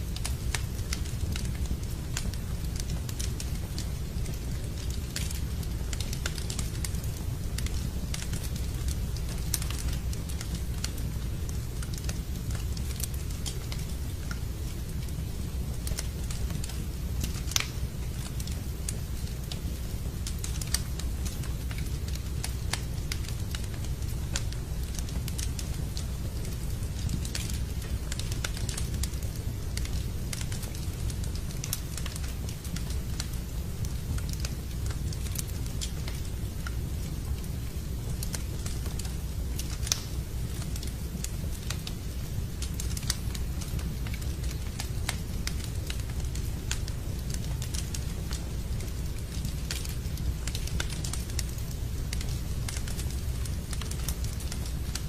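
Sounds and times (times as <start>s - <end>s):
steady rain: 0.0s - 55.0s
wood fire crackling: 0.0s - 55.0s.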